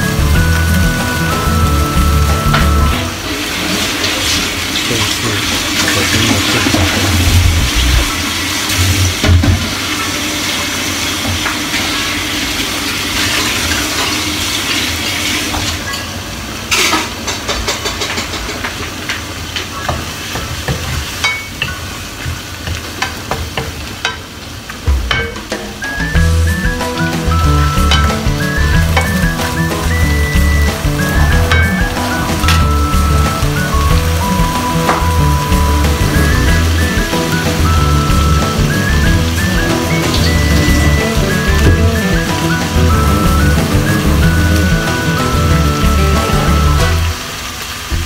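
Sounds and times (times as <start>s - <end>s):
food sizzling in frying pan: 0.0s - 17.3s, 18.1s - 48.0s.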